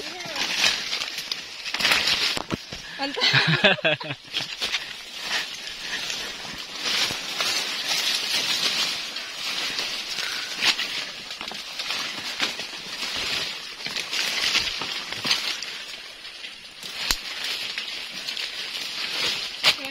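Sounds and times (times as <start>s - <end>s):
twigs snapping: 0.0s - 3.0s, 4.2s - 19.9s
leaves rustling against clothes: 0.0s - 19.9s.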